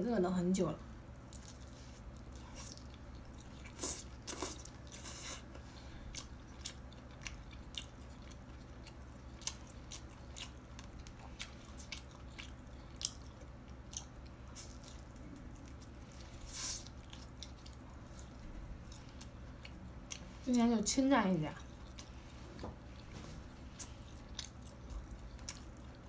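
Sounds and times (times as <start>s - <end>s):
person chewing and crunching: 1.3s - 20.4s, 21.6s - 26.0s.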